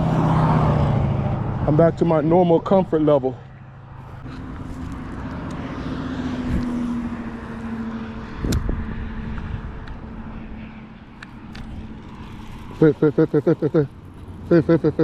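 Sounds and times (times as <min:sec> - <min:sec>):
passing engine drone: 0:00.0 - 0:15.0.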